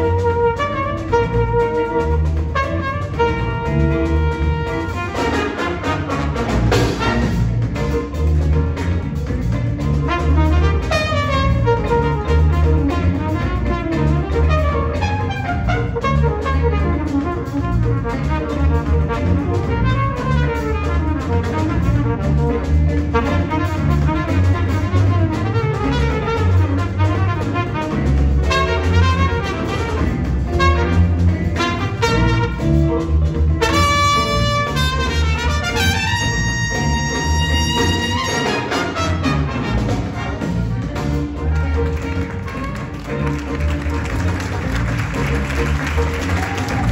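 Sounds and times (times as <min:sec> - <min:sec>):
trumpet soloing: 0:00.0 - 0:07.8, 0:09.9 - 0:46.9
big band playing funk: 0:00.0 - 0:46.9
drums: 0:00.0 - 0:46.9
pulsing bass line: 0:00.0 - 0:46.9.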